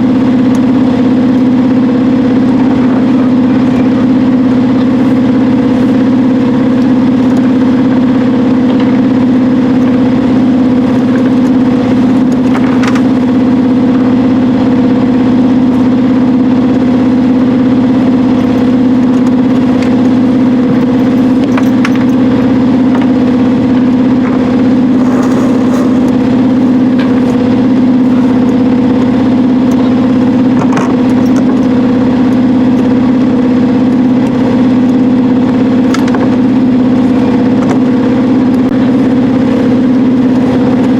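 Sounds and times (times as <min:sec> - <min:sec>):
boat engine humming: 0:00.0 - 0:40.9.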